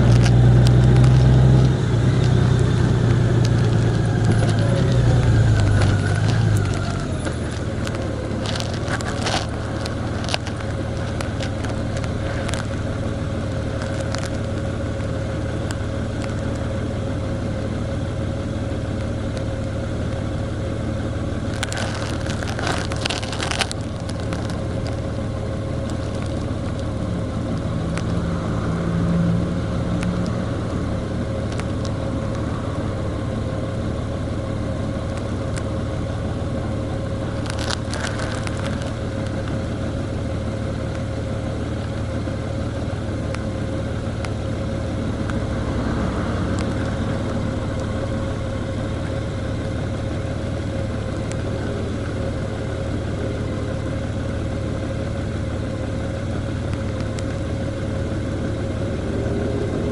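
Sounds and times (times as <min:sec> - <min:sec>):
crackling: 0:00.0 - 0:16.9, 0:21.0 - 0:59.9
vehicle engine and road drone: 0:00.0 - 0:59.9.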